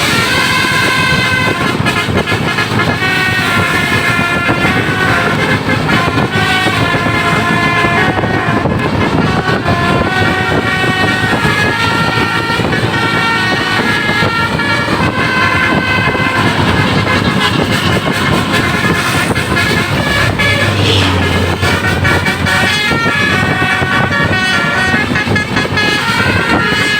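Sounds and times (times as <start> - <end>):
musical bus horn melody: 0.0 - 26.9
road and engine noise: 0.0 - 26.9.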